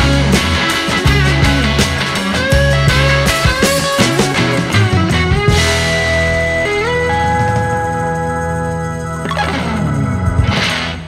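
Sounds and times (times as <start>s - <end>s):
background guitar music: 0.0s - 11.0s.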